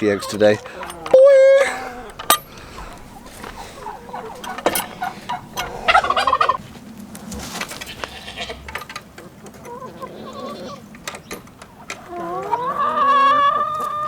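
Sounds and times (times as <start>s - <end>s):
turkey gobbling: 0.0s - 14.0s.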